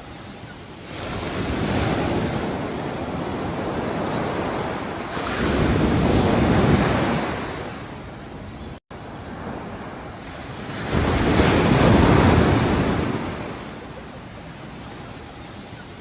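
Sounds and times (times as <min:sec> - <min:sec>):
ocean waves washing on shore: 0:00.0 - 0:16.0.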